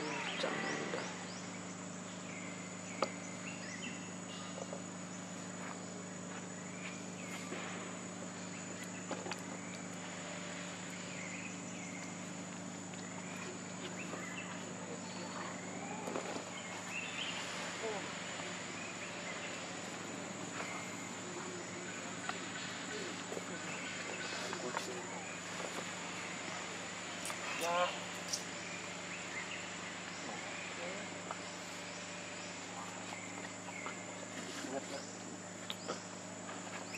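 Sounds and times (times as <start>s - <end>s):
high-pitched insect drone: 0.0s - 36.9s
low hum: 0.0s - 36.9s.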